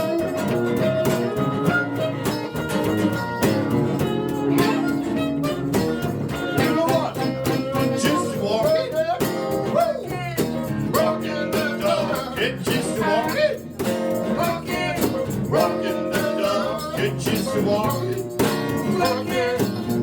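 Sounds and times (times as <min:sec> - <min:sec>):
blues harmonica solo: 0:00.0 - 0:20.0
strummed guitar: 0:00.0 - 0:20.0.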